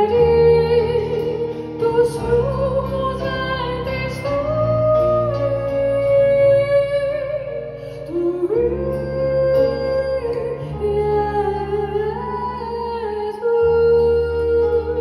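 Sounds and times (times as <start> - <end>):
live band with bass: 0.0 - 15.0
woman singing with vibrato: 0.0 - 15.0.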